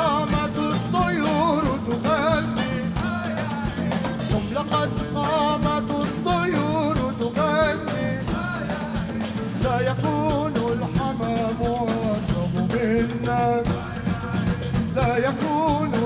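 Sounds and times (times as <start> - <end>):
drum kit: 0.0 - 16.0
jazz ensemble playing live: 0.0 - 16.0.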